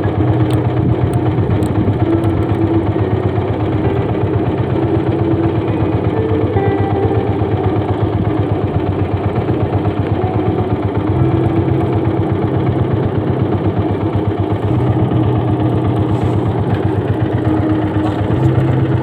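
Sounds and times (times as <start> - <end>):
boat engine running steadily: 0.0 - 19.0.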